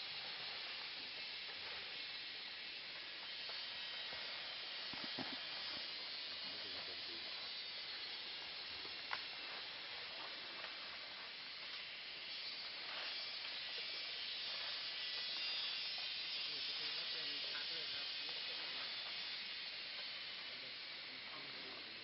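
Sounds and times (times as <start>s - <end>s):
forest background hiss: 0.0s - 22.0s.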